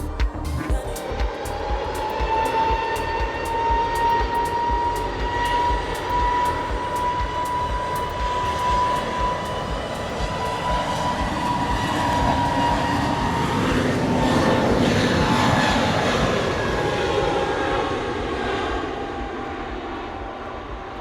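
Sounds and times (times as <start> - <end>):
jet airliner flying past: 1.0 - 21.0.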